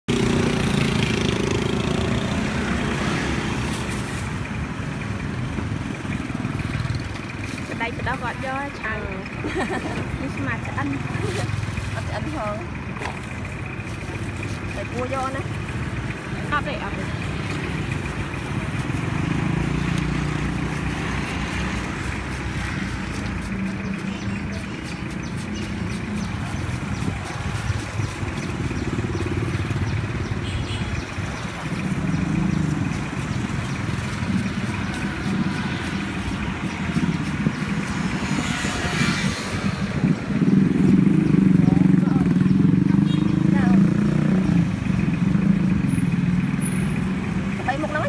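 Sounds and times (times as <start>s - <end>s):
street traffic noise: 0.0s - 48.0s
motorbike engine running: 0.1s - 48.0s.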